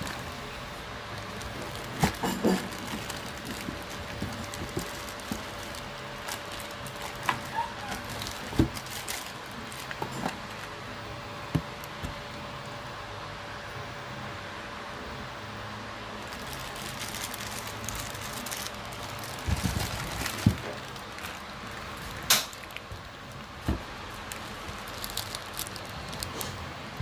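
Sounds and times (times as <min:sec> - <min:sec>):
plastic bag crinkling: 0:00.0 - 0:10.9, 0:16.2 - 0:27.0.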